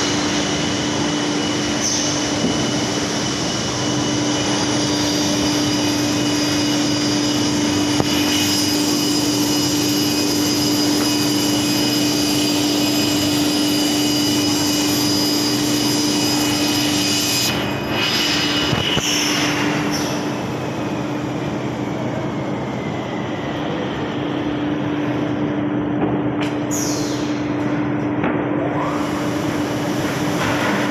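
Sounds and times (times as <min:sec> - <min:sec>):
factory machinery drone: 0:00.0 - 0:30.9.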